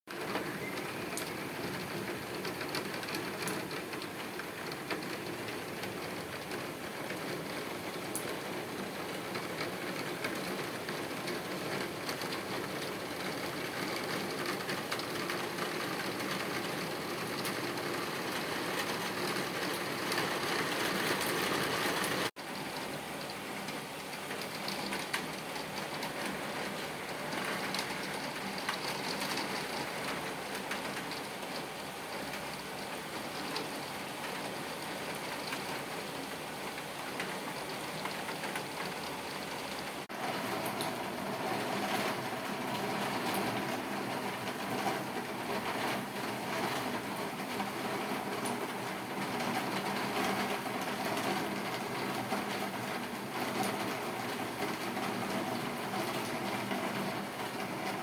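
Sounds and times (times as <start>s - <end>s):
heavy rain pouring: 0.1s - 58.0s.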